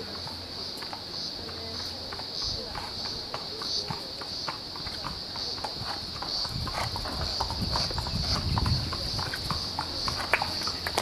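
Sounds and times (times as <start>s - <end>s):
horse hoofbeats on grass: 0.0s - 11.0s
insects droning: 0.0s - 11.0s.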